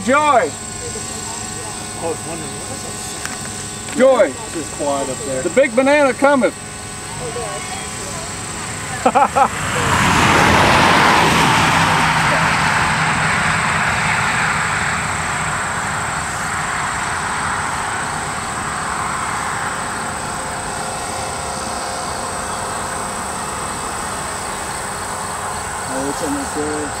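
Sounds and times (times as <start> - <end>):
low hum: 0.0 - 27.0
vehicle passing: 0.0 - 27.0.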